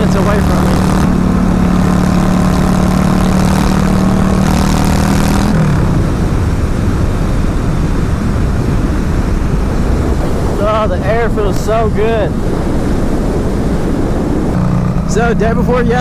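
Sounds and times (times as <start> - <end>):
motorcycle engine running: 0.0 - 10.6, 12.4 - 16.0
wind rush: 0.0 - 16.0.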